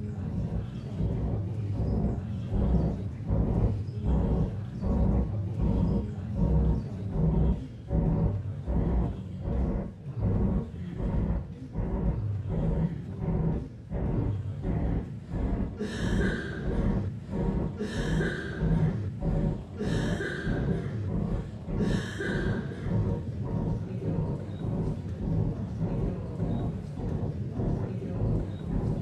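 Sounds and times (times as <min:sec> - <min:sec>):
low rumbling soundtrack: 0:00.0 - 0:29.0.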